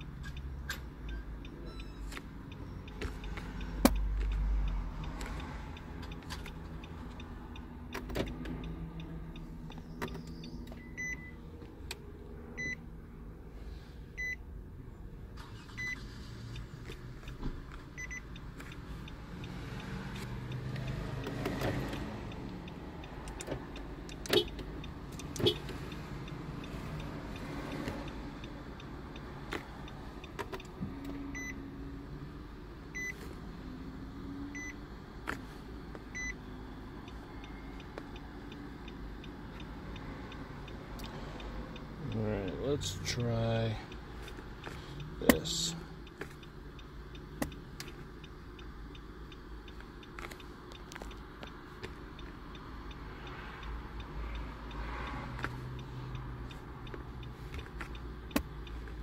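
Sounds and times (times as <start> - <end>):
hazard indicator ticking: 0.0 - 12.9, 15.8 - 59.0.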